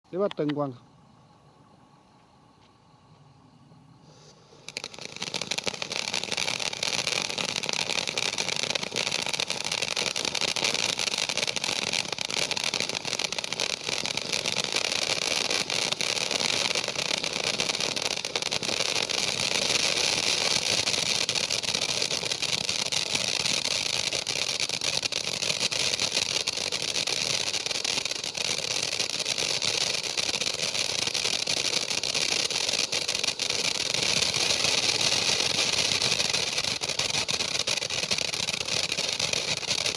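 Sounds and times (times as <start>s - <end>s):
firework fountain hissing and crackling: 3.8s - 39.9s.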